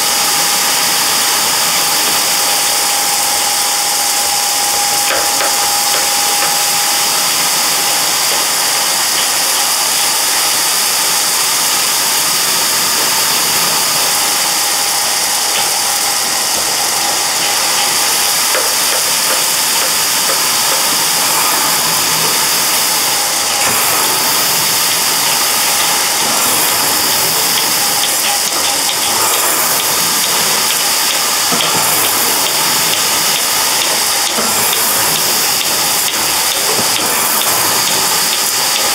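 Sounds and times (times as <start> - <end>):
geared drive running: 0.0 - 38.9.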